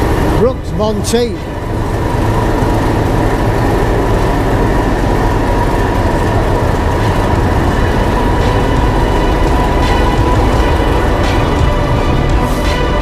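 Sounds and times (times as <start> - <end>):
faint steady whine: 0.0 - 13.0
train carriages rumbling on track: 0.0 - 13.0.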